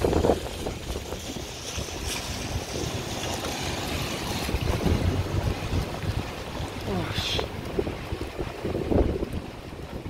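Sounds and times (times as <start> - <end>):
strong wind rumbling on microphone: 0.0 - 10.0
wind-driven rain hissing: 0.0 - 10.0.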